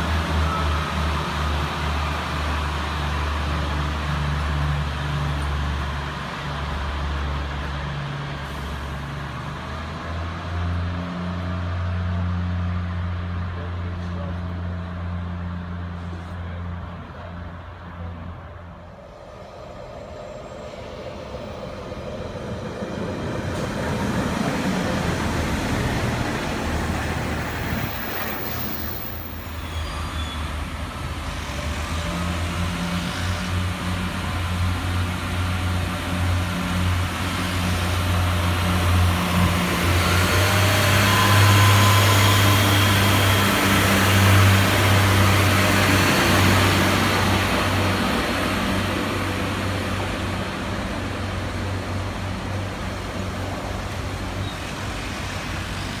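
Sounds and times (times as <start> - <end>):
train diesel engine drone: 0.0 - 56.0.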